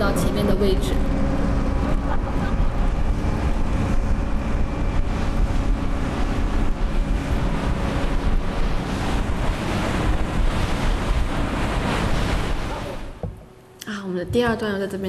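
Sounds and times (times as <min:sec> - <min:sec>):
wind on microphone: 0:00.0 - 0:13.4
low rumble of boat and water: 0:00.0 - 0:15.0.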